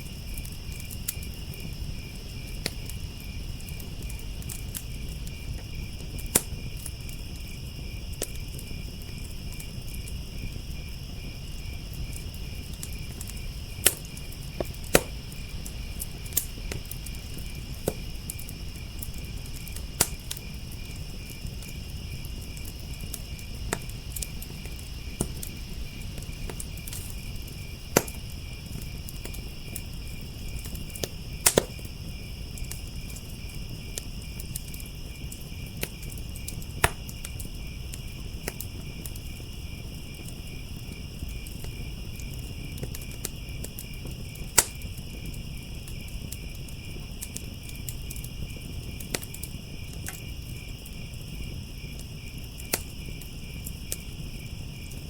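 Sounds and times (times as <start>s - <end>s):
burning wood popping: 0.0s - 55.0s
crickets chirping: 0.0s - 55.0s
low hiss of fire: 0.0s - 55.0s.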